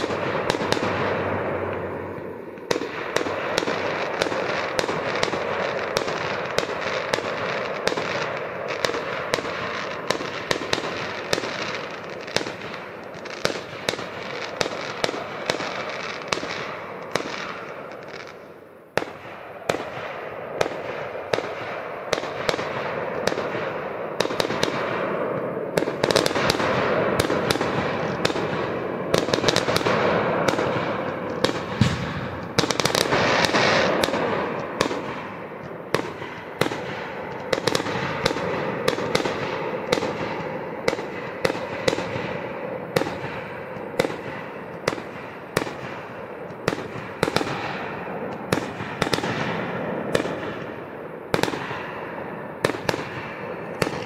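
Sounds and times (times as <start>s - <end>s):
fireworks crackle and hiss: 0.0s - 20.0s, 20.6s - 54.0s
fireworks bangs and pops: 0.0s - 54.0s.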